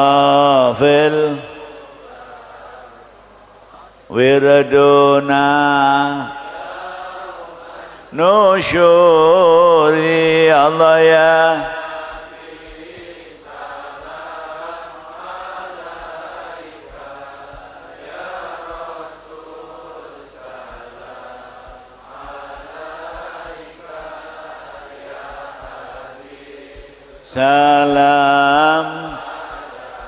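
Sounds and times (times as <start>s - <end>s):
congregation chanting a hymn: 0.0s - 30.0s.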